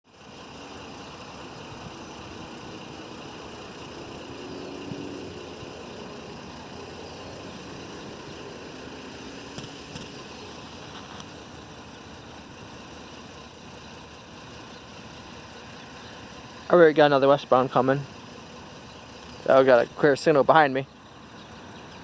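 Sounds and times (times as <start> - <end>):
engine hum: 0.0 - 22.0.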